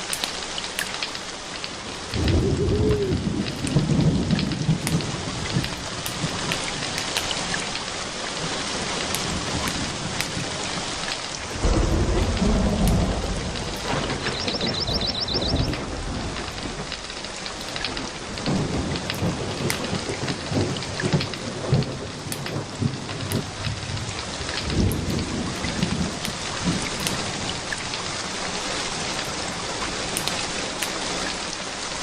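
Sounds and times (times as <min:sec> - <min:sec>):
steady rain falling: 0:00.0 - 0:32.0
thunder rumbling: 0:01.9 - 0:28.4.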